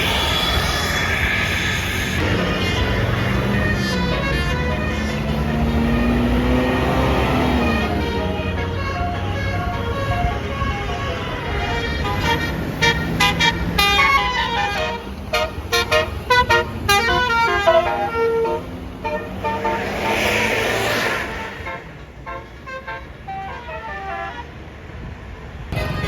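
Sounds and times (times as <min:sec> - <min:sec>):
bus engine running: 0:00.0 - 0:26.0
multi-tone bus horn melody: 0:02.2 - 0:25.1, 0:25.7 - 0:26.0.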